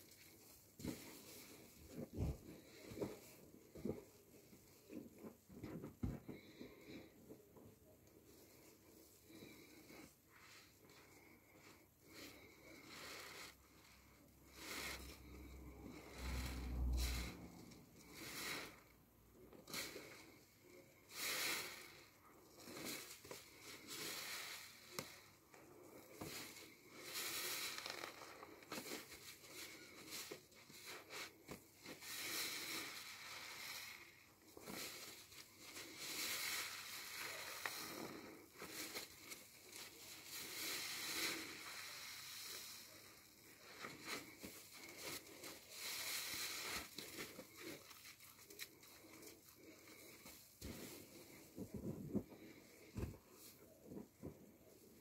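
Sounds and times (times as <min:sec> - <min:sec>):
sponge squelching in soapy foam: 0:08.3 - 0:55.0.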